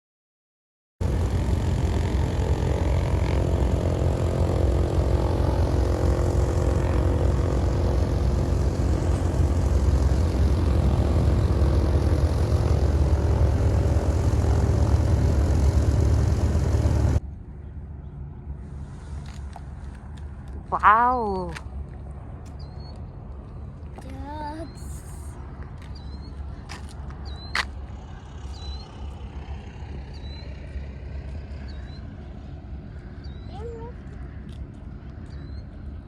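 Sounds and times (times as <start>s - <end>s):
propeller airplane engine drone: 1.0s - 36.0s.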